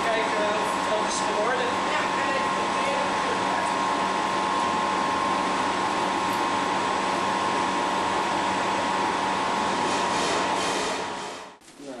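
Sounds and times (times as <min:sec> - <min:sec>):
steady machine drone: 0:00.0 - 0:11.6.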